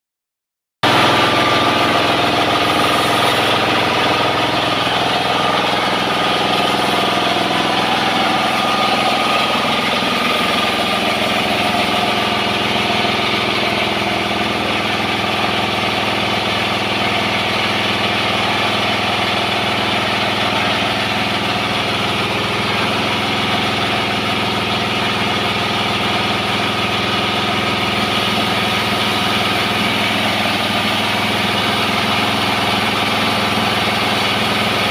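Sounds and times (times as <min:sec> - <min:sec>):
sawmill droning: 0:00.8 - 0:34.9.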